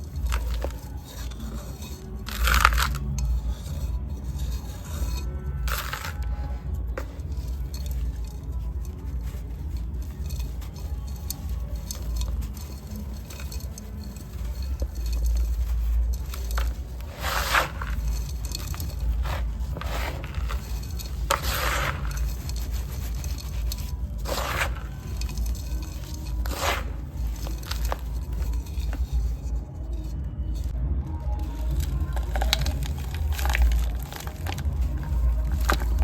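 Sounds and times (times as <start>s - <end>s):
low rumble: 0.0s - 36.0s
sand and clay crumbling: 0.0s - 36.0s.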